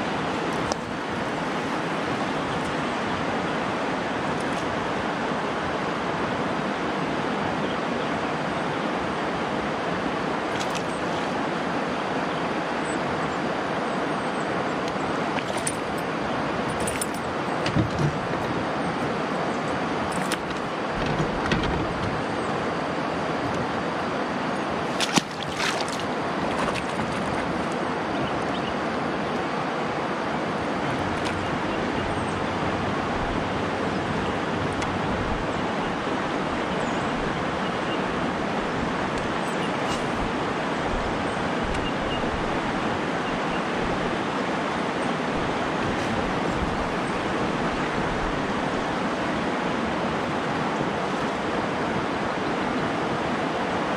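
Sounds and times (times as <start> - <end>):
river water rushing over rocks: 0.0 - 53.9.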